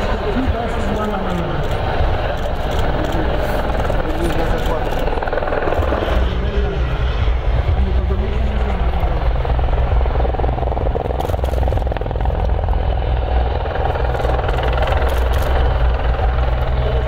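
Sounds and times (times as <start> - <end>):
helicopters flying past: 0.0 - 17.0.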